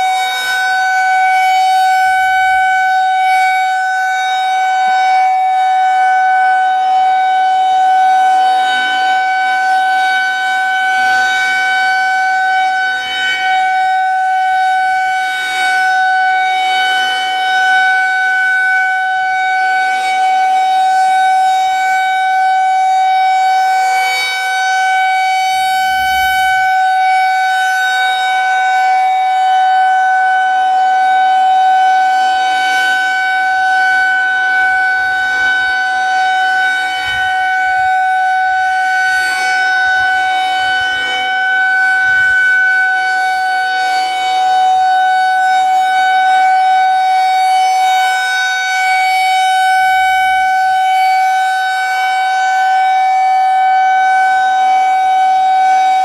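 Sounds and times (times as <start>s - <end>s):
rotating warning siren: 0.0s - 56.0s.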